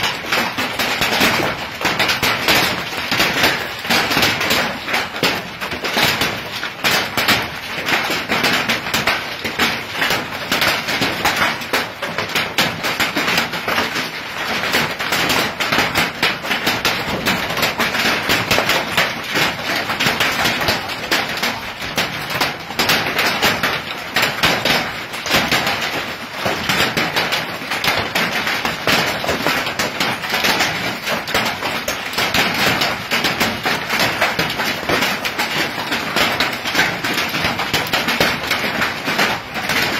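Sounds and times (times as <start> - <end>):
hailstones clattering on hard surfaces: 0.0 - 39.9.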